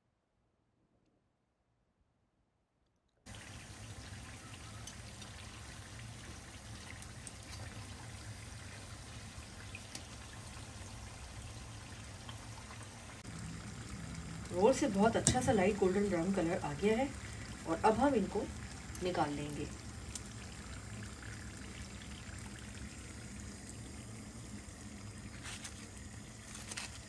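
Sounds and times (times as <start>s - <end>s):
food sizzling in hot oil: 3.3s - 27.0s.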